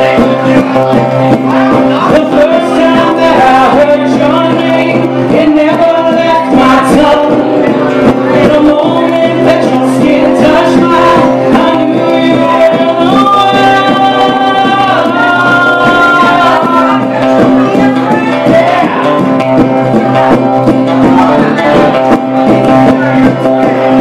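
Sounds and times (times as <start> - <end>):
acoustic guitar: 0.0 - 24.0
person singing: 0.0 - 24.0.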